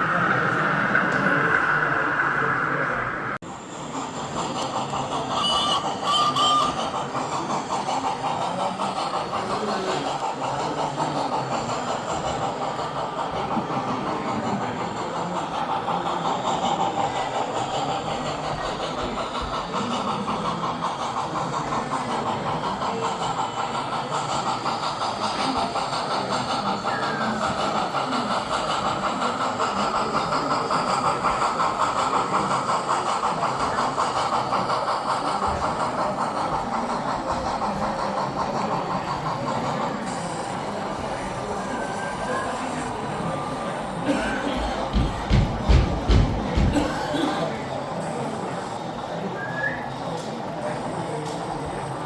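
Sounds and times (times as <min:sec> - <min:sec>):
model train running: 0:00.0 - 0:52.0
wheels clicking on rails: 0:04.1 - 0:52.0.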